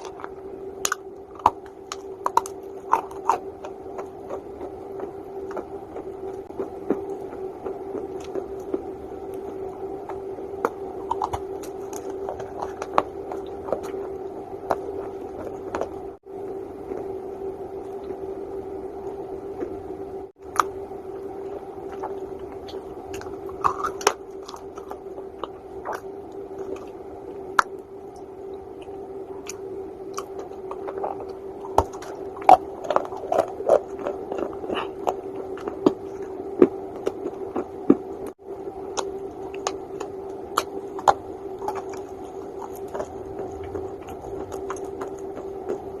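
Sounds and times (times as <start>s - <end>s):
clay being chewed with crunches: 0.0s - 17.1s, 20.4s - 46.0s
steady hum: 0.0s - 46.0s.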